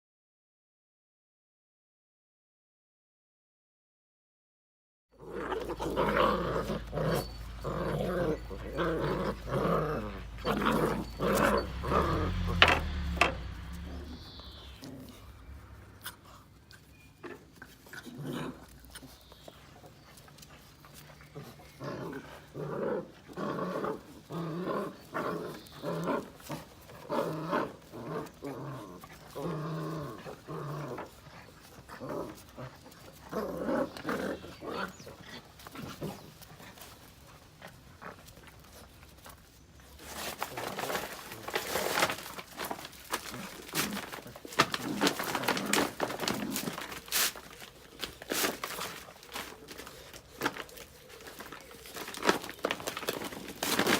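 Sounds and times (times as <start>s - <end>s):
rustling and clattering: 5.2s - 53.9s.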